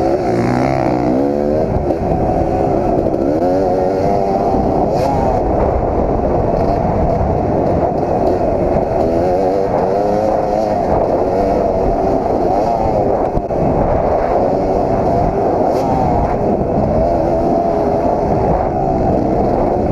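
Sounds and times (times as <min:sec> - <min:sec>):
motocross bike engine revving: 0:00.0 - 0:19.9
wind and riding rumble: 0:00.0 - 0:19.9.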